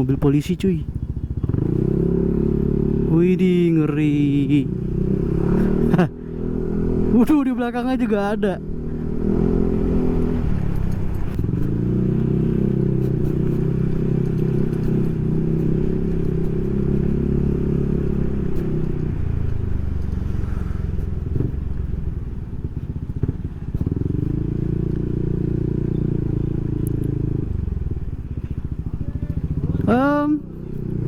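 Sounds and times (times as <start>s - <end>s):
scooter engine while riding: 0.0s - 31.0s.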